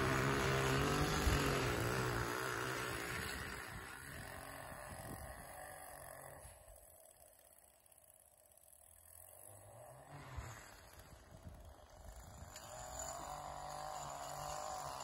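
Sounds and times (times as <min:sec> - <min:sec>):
lawn edger engine running: 0:00.0 - 0:15.0.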